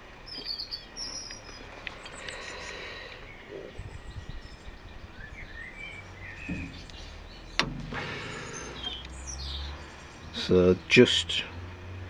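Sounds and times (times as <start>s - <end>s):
bird chirps: 0.2s - 10.9s.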